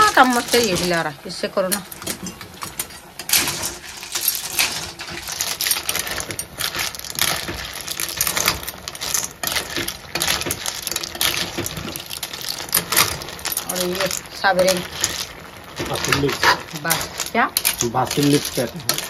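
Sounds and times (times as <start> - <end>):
snail shells clinking in a pan: 0.0 - 19.0.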